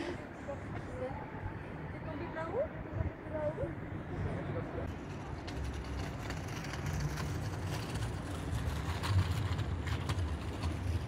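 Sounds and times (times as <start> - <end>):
distant city traffic rumble: 0.0 - 11.0.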